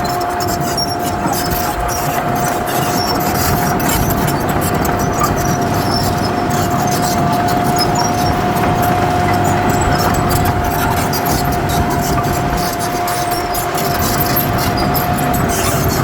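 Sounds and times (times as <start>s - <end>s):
heavy machinery engine running: 0.0s - 16.0s
high mechanical whine: 0.0s - 16.0s.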